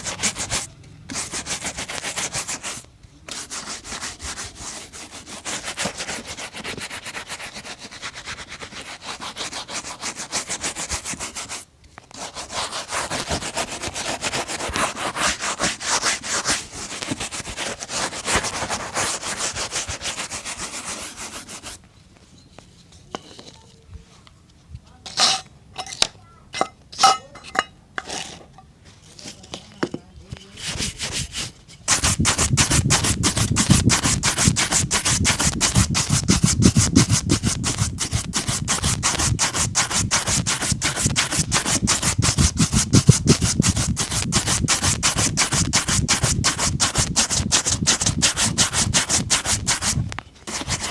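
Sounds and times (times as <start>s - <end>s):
boot being scrubbed: 0.0s - 11.6s, 12.2s - 21.8s, 30.5s - 50.9s.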